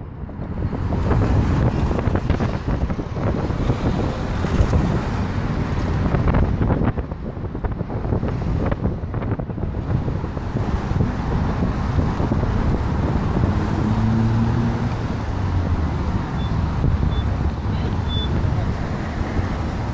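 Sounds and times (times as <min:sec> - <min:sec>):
road traffic passing: 0:00.0 - 0:19.9
vehicle engine hum: 0:00.0 - 0:19.9
wind rushing over microphone: 0:00.0 - 0:19.9.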